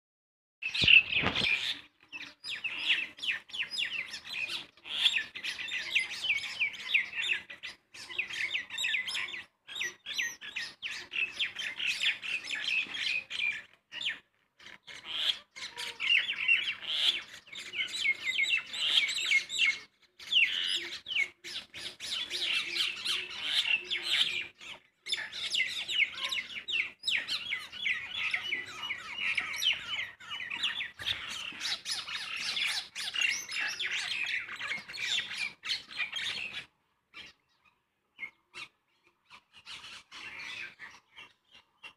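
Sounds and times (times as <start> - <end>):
small birds chirping rapidly: 0.6 - 41.9.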